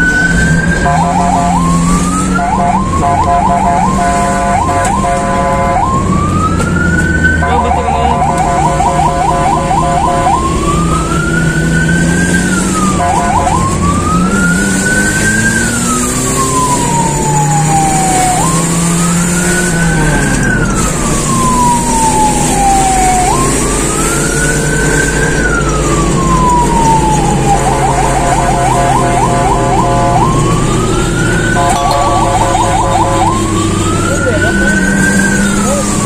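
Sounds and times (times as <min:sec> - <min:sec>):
electronic siren yelp and wail: 0:00.0 - 0:36.0.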